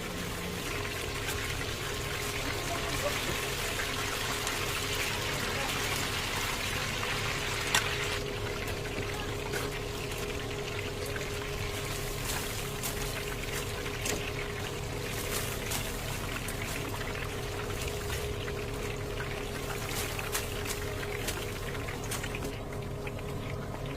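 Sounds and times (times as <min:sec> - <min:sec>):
chicken sizzling in oil: 0:00.0 - 0:23.9
steady low hum: 0:00.0 - 0:23.9.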